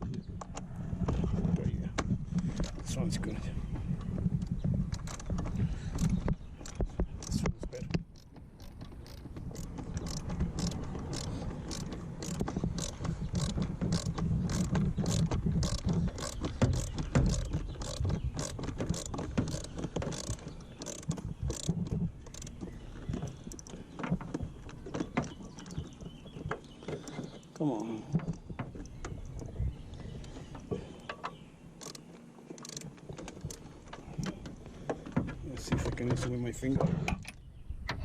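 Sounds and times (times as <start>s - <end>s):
rumbling handling noise: 0.0s - 38.0s.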